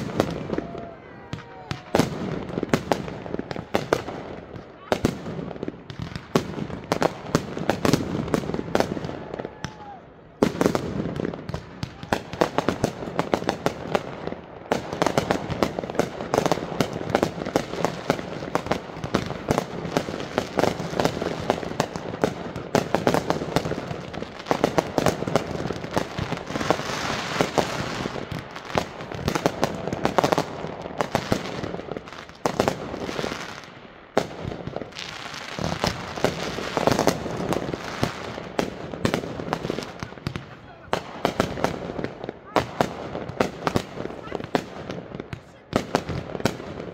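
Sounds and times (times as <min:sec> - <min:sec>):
fireworks launching and bursting: 0:00.0 - 0:46.9.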